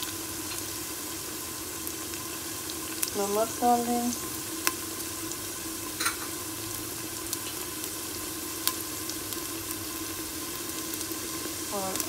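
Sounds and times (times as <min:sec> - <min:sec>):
hot oil sizzling in a pot: 0:00.0 - 0:12.0.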